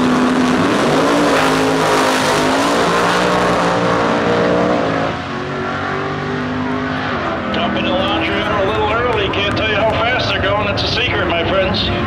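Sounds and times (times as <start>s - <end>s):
muscle car engines at full throttle: 0.0s - 12.0s.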